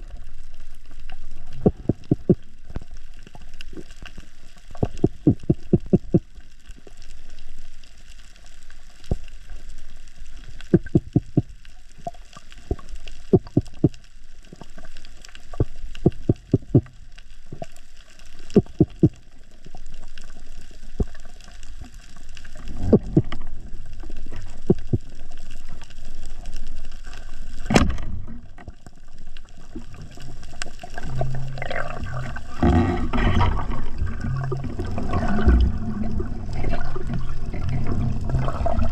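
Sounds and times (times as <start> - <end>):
rushing bubbling water: 0.0 - 38.9.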